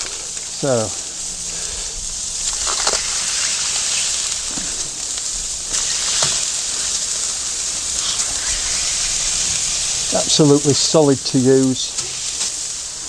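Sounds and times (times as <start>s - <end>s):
meat sizzling on a hot plate: 0.0s - 13.0s.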